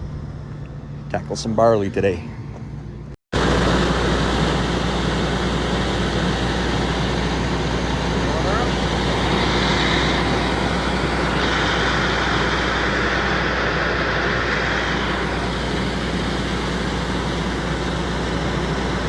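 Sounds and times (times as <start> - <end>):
farm machinery engine running: 3.4 - 19.0.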